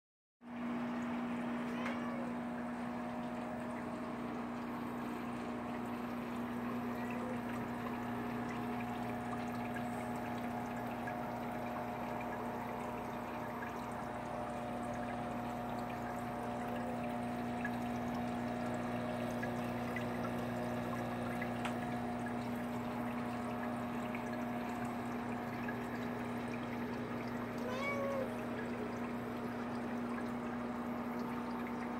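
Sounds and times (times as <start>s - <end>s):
pump humming: 0.4s - 31.9s
water trickling and bubbling: 0.5s - 31.9s.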